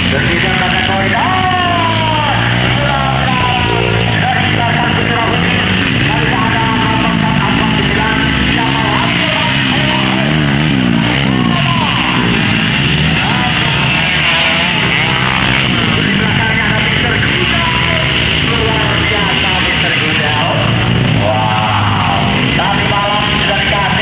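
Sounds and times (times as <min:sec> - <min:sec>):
loud music: 0:00.0 - 0:24.0
motocross bike engines revving: 0:00.0 - 0:24.0.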